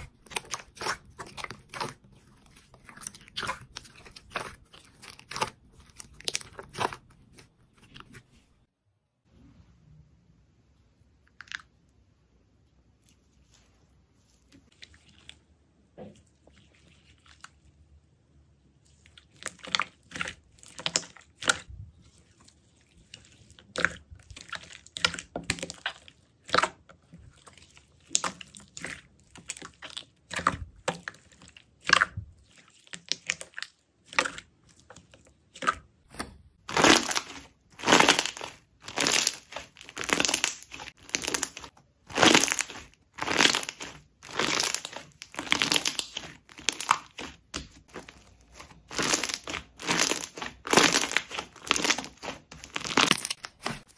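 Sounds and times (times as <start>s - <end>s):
slime squishing by hand: 0.0s - 8.7s, 11.1s - 53.9s.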